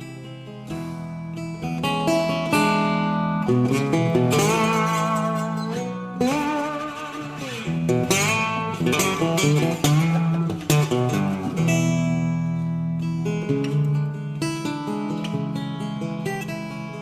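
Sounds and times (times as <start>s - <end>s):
plucked guitar music: 0.0s - 17.0s.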